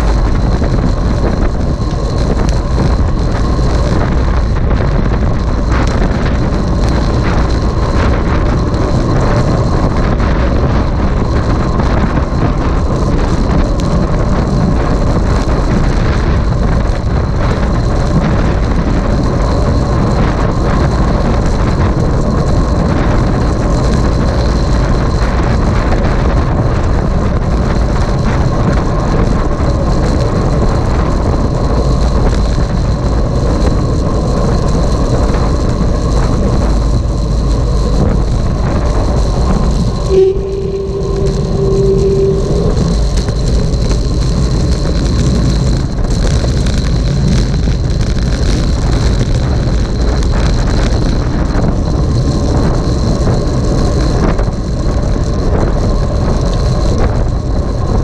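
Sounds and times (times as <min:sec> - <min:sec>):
faint steady whine: 0:00.0 - 0:58.0
road rumble: 0:00.0 - 0:58.0
wind buffeting microphone: 0:00.0 - 0:58.0.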